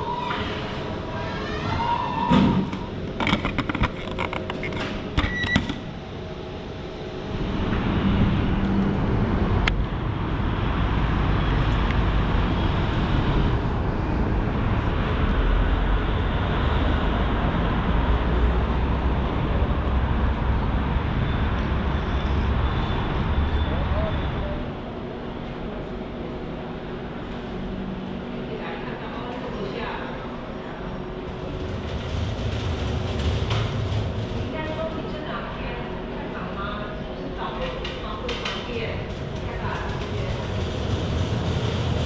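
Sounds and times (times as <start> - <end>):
machine hum: 0.0 - 37.2, 37.9 - 42.0
low city rumble: 0.0 - 42.0.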